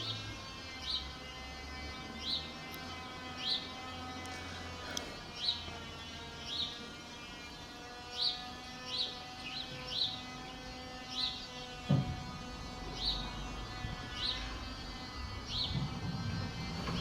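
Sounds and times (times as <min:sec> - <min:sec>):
bird chirping: 0:00.0 - 0:17.0
electric siren steady tone: 0:00.0 - 0:17.0.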